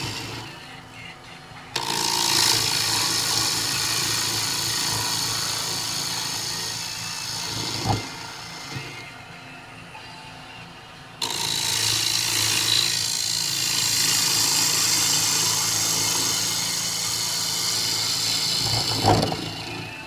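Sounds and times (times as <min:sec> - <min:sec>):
gouge cutting wood hissing: 0:00.0 - 0:00.5, 0:01.8 - 0:09.1, 0:11.2 - 0:19.9
lathe humming: 0:00.0 - 0:01.1, 0:01.7 - 0:20.0.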